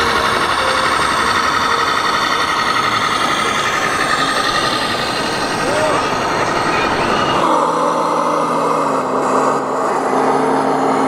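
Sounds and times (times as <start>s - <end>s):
electronic diesel engine sound: 0.0s - 11.0s.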